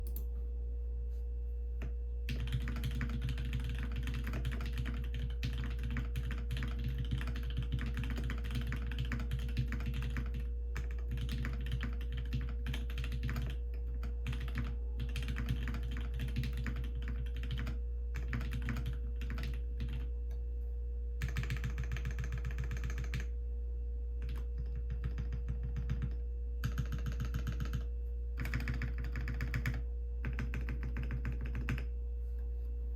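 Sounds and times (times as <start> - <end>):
mechanical keyboard typing: 0.0 - 0.2, 2.3 - 20.1, 21.2 - 23.3, 24.2 - 31.9.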